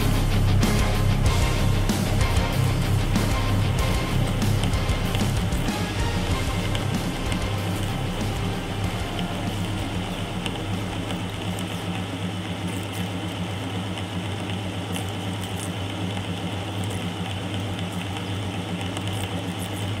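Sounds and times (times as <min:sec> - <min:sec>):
lathe motor humming: 0:00.0 - 0:20.0.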